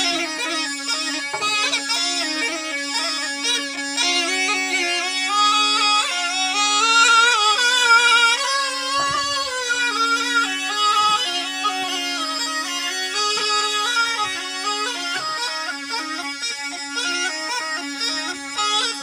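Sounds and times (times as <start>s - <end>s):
reed pipe melody: 0.0s - 19.0s
steady drone: 0.0s - 19.0s.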